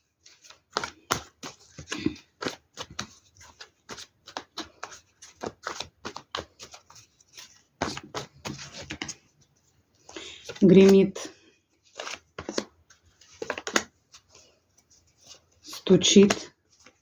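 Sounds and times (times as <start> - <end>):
cards being shuffled: 0.2 - 17.0.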